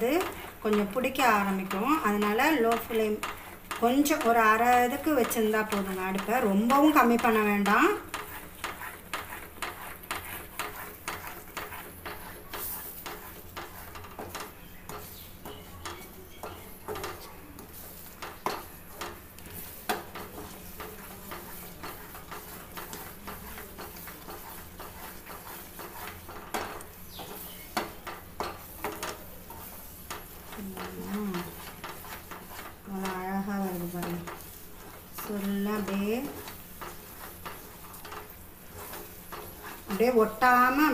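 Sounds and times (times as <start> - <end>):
spatula scraping a pan: 0.0 - 40.9.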